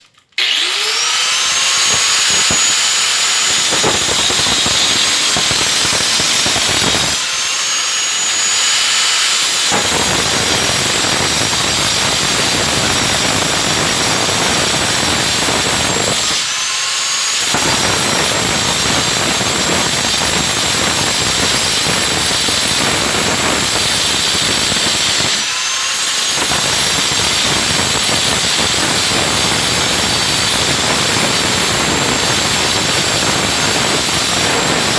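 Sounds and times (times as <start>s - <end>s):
circular saw cutting: 0.4s - 34.9s.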